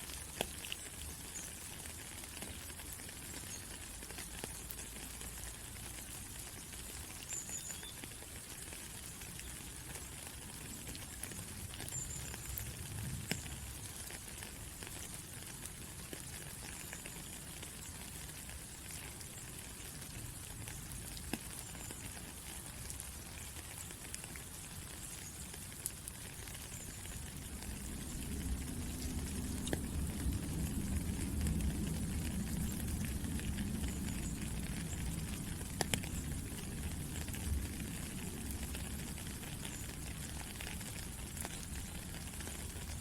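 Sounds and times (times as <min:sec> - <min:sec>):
rain hiss: 0:00.0 - 0:43.0.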